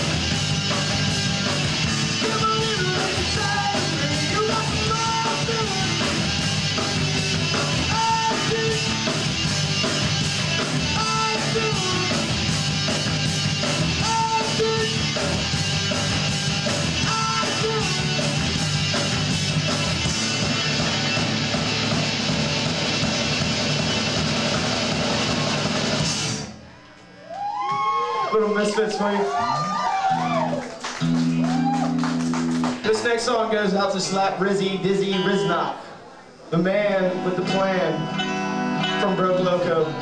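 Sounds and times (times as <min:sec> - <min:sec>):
rock band playing: 0:00.0 - 0:26.6, 0:30.0 - 0:34.2, 0:36.9 - 0:40.0.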